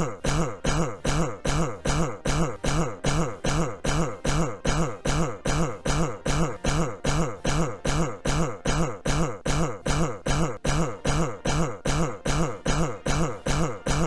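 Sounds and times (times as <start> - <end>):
looped man's cough: 0.0 - 14.0.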